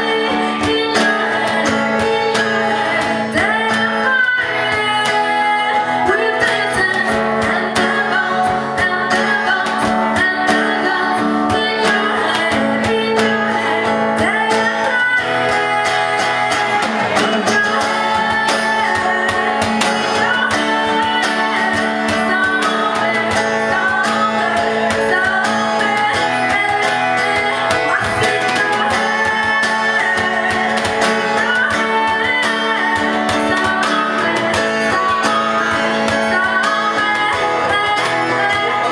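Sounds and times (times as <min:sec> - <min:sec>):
acoustic guitar music: 0:00.0 - 0:38.9.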